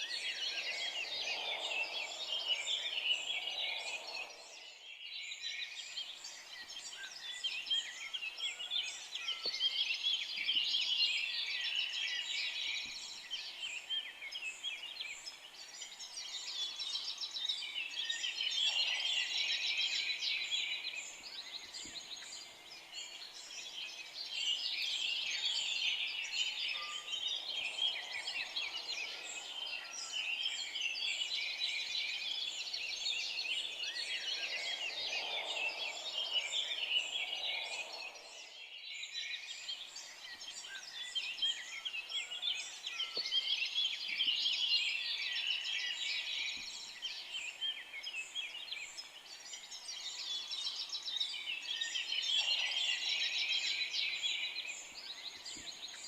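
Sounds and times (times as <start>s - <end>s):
forest birds chirping and trilling: 0.0s - 56.0s.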